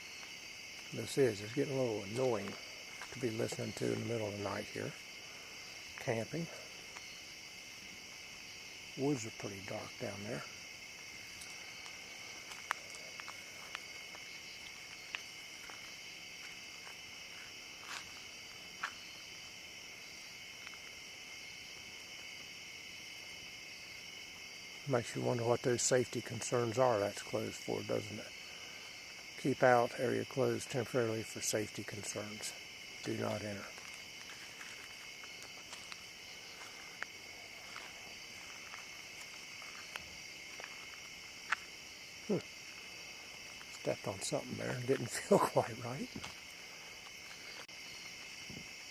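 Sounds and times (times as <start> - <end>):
chorus of night insects: 0.0 - 48.9
crickets trilling: 0.0 - 48.9.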